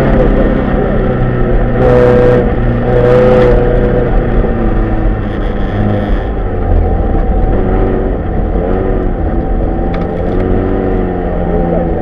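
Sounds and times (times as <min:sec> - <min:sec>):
car engine revving: 0:00.0 - 0:12.0
road and tyre noise: 0:00.0 - 0:12.0.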